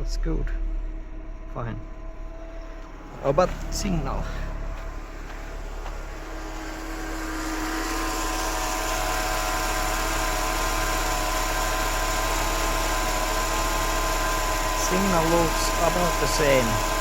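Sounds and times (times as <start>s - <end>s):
car engine idling: 0.0s - 17.0s
engine whine: 0.0s - 17.0s.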